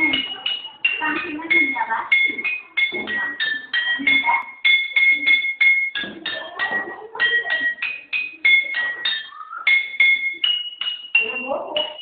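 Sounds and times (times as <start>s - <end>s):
glass bottles struck in a tune: 0.0s - 12.0s.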